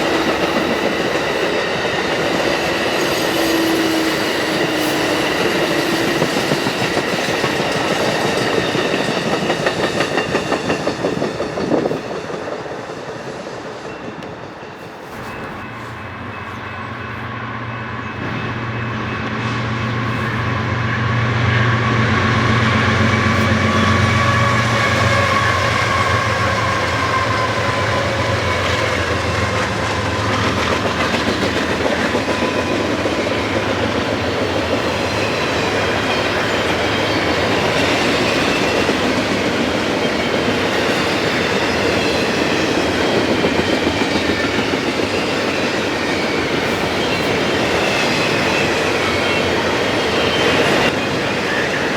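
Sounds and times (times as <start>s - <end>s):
train cars clattering over rails: 0.0s - 17.2s, 22.1s - 51.9s
train engine hum: 0.0s - 51.9s.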